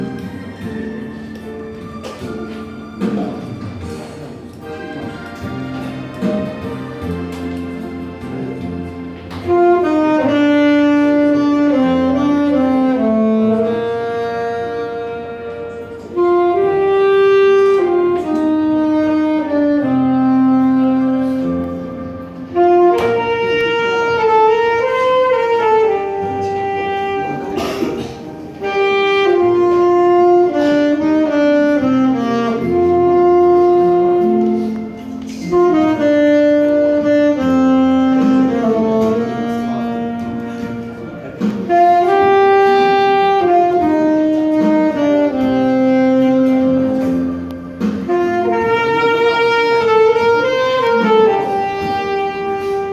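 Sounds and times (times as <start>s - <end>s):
saxophone playing slow ballad: 0.0s - 52.9s.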